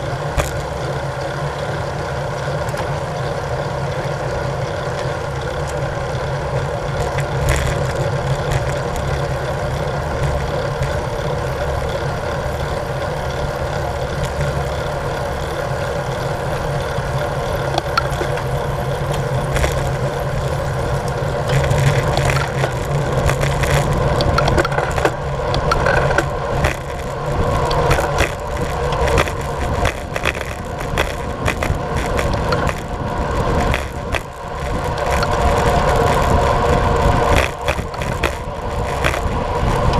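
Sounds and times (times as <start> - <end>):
bicycle tyre and drivetrain hum: 0.0 - 39.9
wind rushing over microphone: 5.6 - 39.9.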